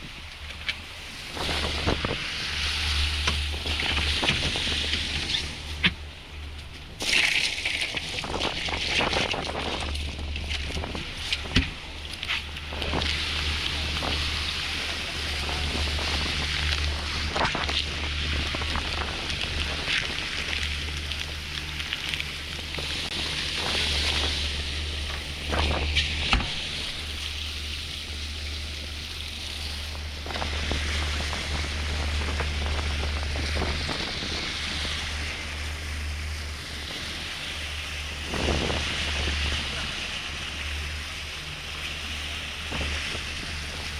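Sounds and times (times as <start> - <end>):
boat engine droning: 0.0 - 43.9
rushing water: 0.0 - 43.9
wind noise on microphone: 1.0 - 6.1, 7.2 - 43.9.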